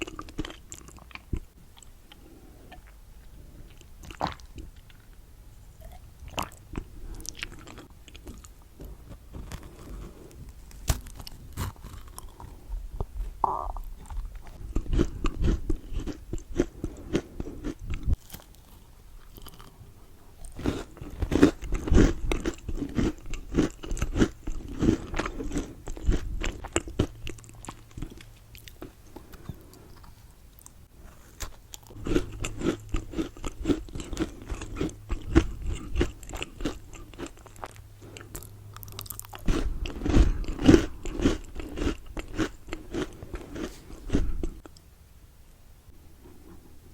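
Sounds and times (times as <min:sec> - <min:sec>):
crunchy chewing of chocolate: 0:00.0 - 0:05.2, 0:05.8 - 0:44.8.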